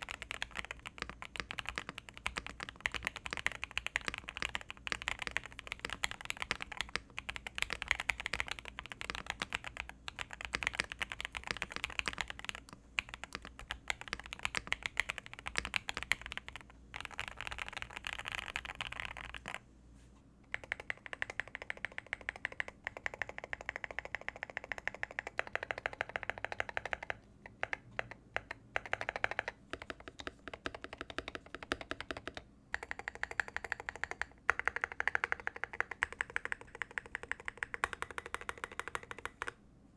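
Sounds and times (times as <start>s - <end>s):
mechanical keyboard clacking: 0.0s - 19.6s, 20.5s - 39.6s.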